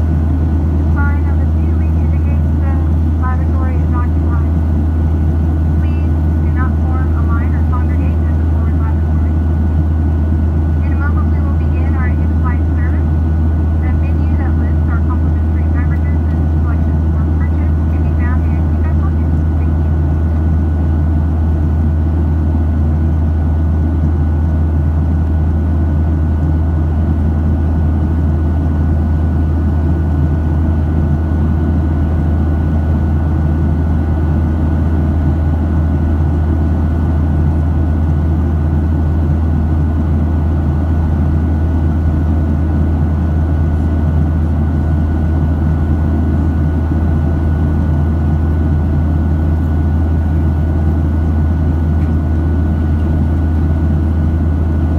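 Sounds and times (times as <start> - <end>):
jet engines droning: 0.0 - 54.9
thin steady whine: 0.0 - 54.9.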